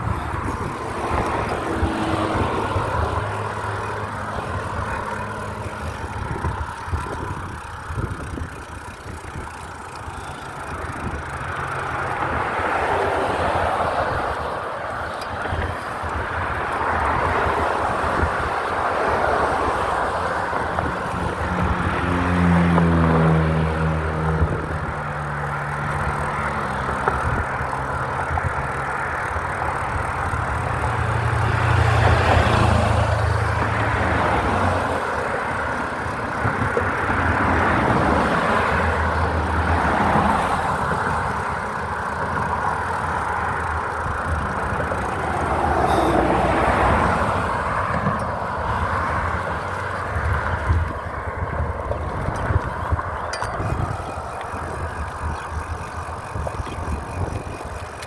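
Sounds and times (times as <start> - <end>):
road noise: 0.0 - 58.0
vehicle engine humming: 0.0 - 58.0
wind: 0.0 - 58.0.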